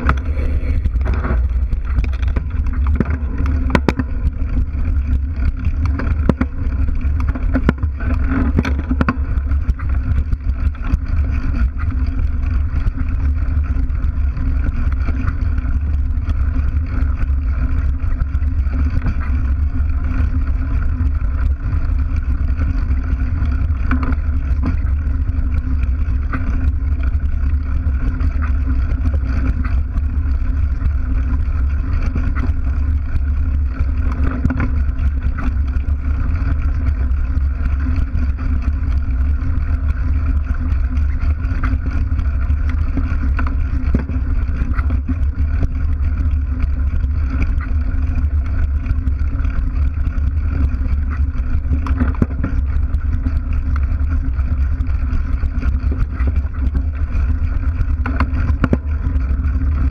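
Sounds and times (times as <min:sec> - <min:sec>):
bike rattles over bumps: 0:00.0 - 0:59.9
bike tyre rumble: 0:00.0 - 0:59.9.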